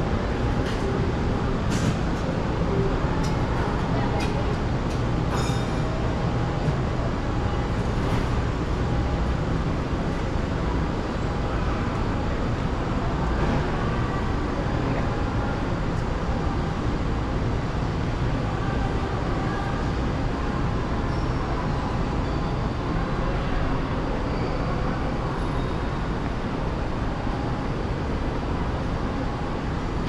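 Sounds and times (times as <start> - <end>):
airport terminal ambient rumble and hiss: 0.0 - 30.0.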